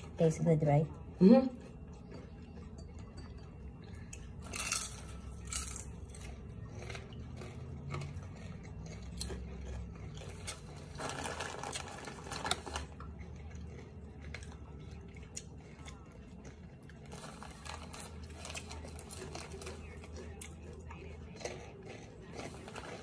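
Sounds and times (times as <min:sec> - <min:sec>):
crunching crispy snack: 0:04.4 - 0:23.0.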